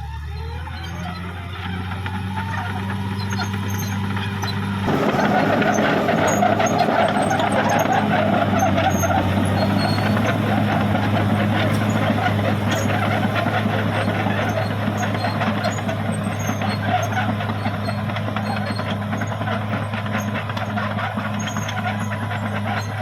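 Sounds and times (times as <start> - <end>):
bulldozer diesel engine running: 0.0 - 23.0
steel tracks rattling and clanking: 3.3 - 23.0.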